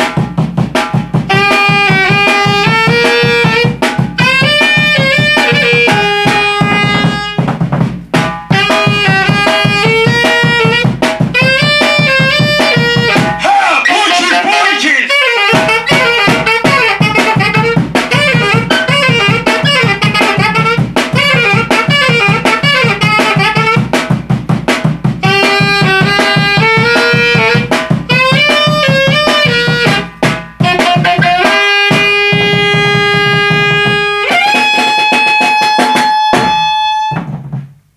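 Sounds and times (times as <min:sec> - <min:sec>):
drums playing: 0:00.0 - 0:37.9
alto saxophone melody: 0:01.2 - 0:07.6, 0:08.2 - 0:24.2, 0:25.2 - 0:37.3.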